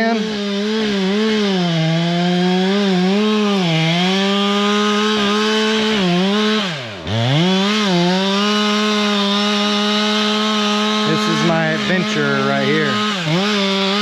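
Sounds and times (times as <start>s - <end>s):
chainsaw running at high revs: 0.0s - 14.0s.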